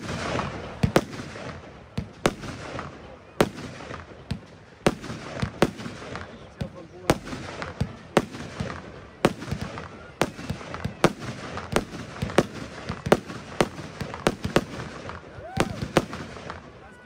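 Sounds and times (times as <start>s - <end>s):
fireworks sharp bangs: 0.0s - 16.9s.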